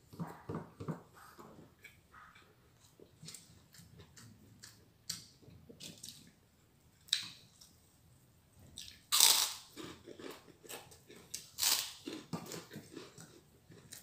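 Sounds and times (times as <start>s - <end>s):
person chewing food: 0.0s - 7.8s, 8.6s - 14.0s.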